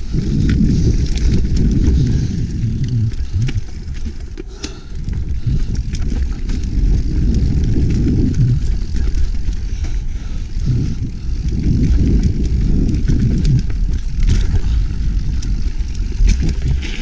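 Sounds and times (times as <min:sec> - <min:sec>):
bike clicks and rattles: 0:00.0 - 0:17.0
tyres rumbling on dirt trail: 0:00.0 - 0:17.0
wind buffeting microphone: 0:00.0 - 0:17.0.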